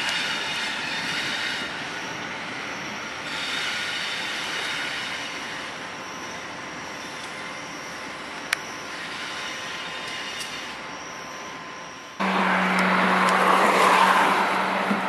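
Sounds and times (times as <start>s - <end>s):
freight train rolling slowly: 0.0s - 15.0s
train wheels squealing on rails: 0.0s - 15.0s.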